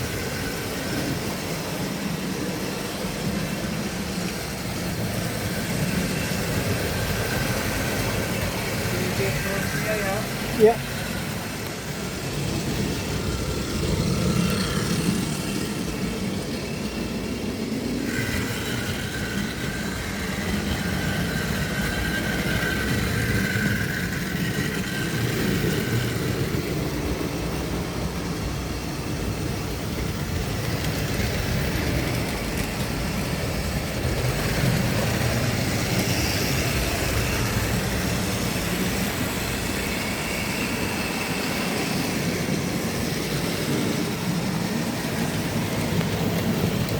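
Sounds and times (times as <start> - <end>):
model train whirring and rattling: 0.0 - 46.9.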